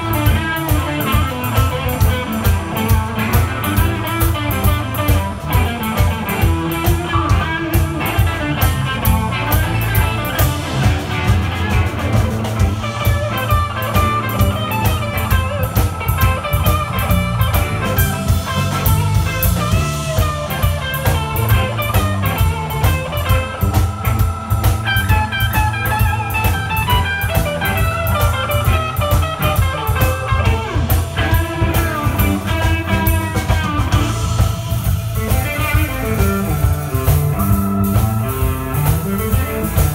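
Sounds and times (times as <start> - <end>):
bass guitar: 0.0 - 39.9
drum kit beat: 0.0 - 39.9
electric guitar melody: 0.0 - 39.9.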